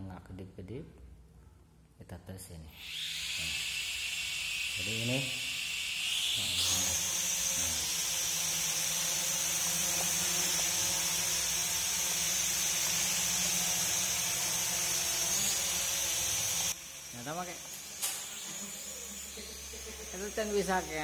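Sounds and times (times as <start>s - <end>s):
toy drone motors whining: 2.7s - 21.0s.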